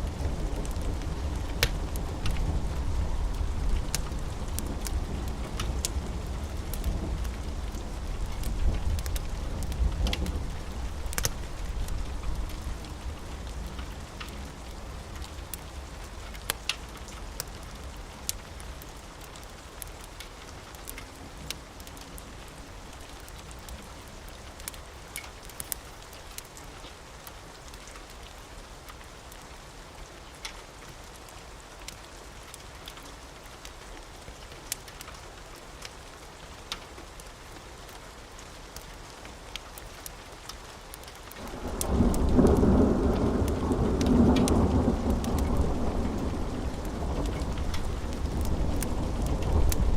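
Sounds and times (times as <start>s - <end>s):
wood fire crackling: 0.0s - 29.4s, 31.8s - 49.9s
rain hiss: 0.0s - 49.9s.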